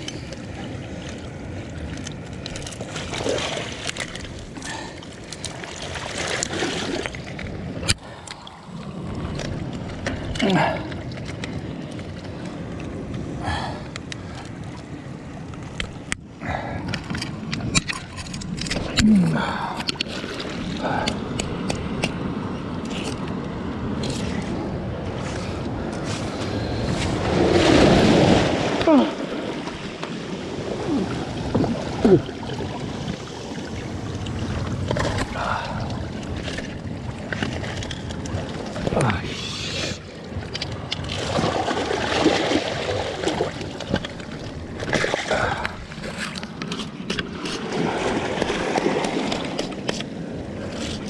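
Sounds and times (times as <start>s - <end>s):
water around a boat: 0.0s - 51.0s
wind: 0.0s - 51.0s.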